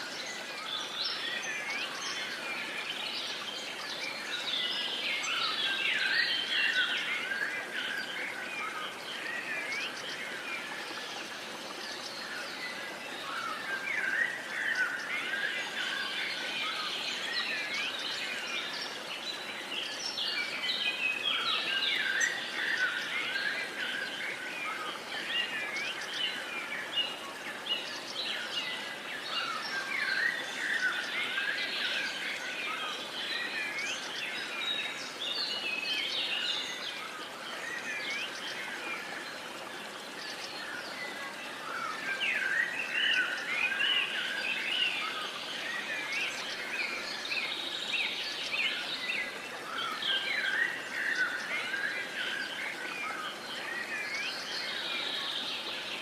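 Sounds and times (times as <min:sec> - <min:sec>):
faint outdoor hiss: 0:00.0 - 0:56.0.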